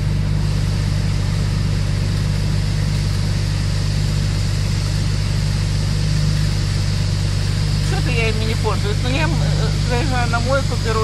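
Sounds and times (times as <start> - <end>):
car engine idling: 0.0 - 11.0
car wash spraying hiss: 0.0 - 11.0.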